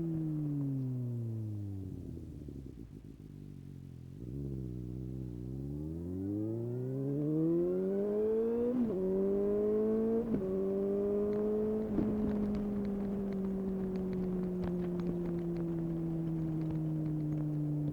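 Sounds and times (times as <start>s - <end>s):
motorcycle engine accelerating: 0.0s - 17.9s
quick gear upshifts: 0.0s - 17.9s.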